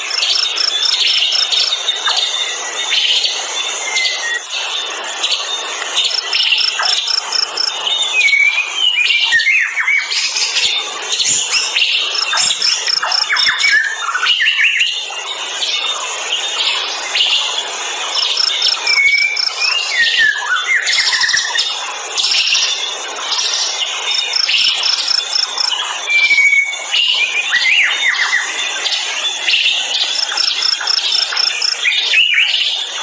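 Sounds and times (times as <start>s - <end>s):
birds calling and chirping: 0.0s - 33.0s
insects humming: 0.0s - 33.0s.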